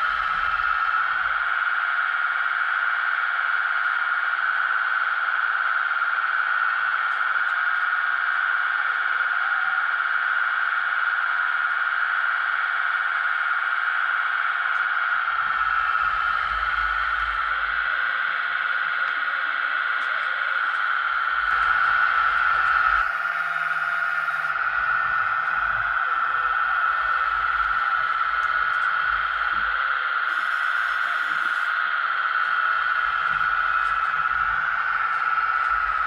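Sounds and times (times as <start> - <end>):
high-pitched motor whine: 0.0 - 36.0.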